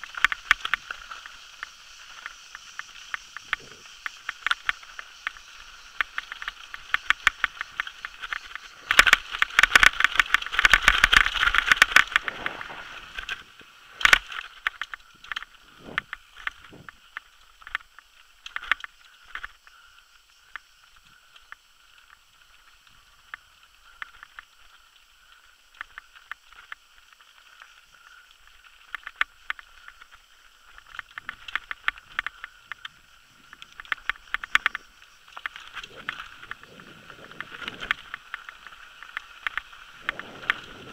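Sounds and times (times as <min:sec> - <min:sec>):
mountain bike rattling over rocks: 0:00.0 - 0:19.6, 0:25.8 - 0:40.9.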